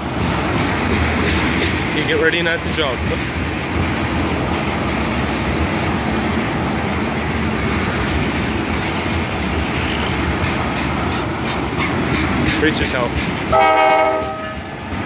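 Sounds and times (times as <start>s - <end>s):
clacks over rail joints: 0.0s - 15.0s
train wheels rumbling on rail: 0.0s - 15.0s.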